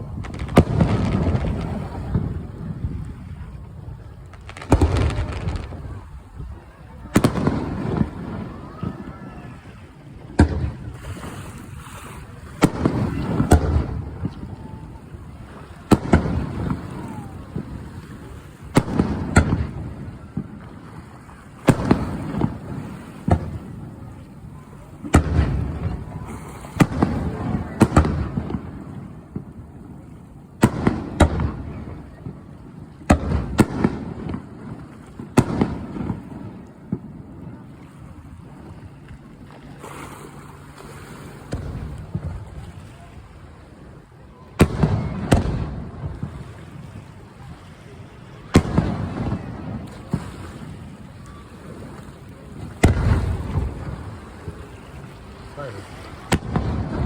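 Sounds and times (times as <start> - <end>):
fireworks bursting with rumble: 0.0 - 37.7, 41.4 - 42.8, 43.8 - 57.0.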